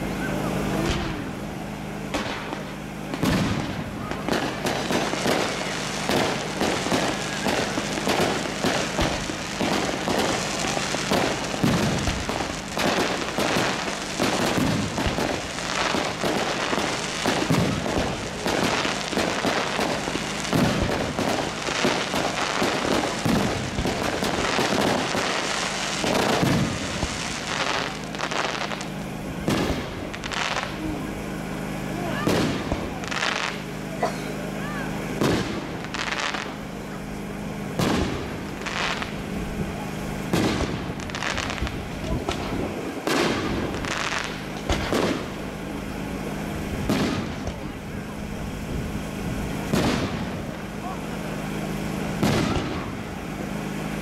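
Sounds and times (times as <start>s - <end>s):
fireworks bangs and crackling: 0.0s - 54.0s
heavy firework booms: 0.7s - 31.2s, 32.0s - 33.7s, 35.1s - 53.4s.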